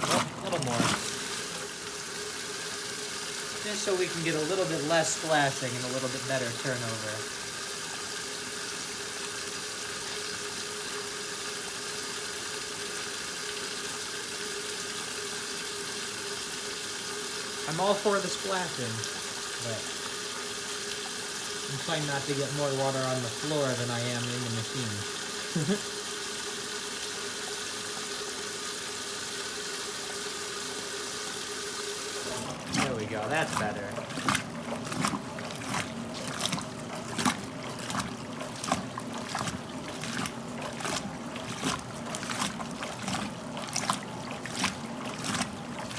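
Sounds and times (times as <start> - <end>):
washing machine motor hum: 0.0 - 45.9
water churning and splashing: 0.0 - 45.9.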